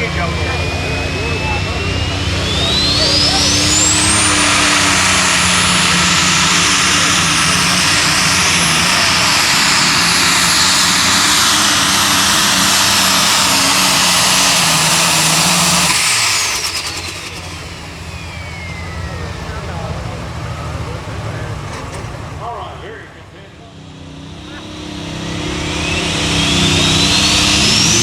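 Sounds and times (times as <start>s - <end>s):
tractor engine at full throttle: 0.0s - 28.0s
turbo whine: 0.0s - 28.0s.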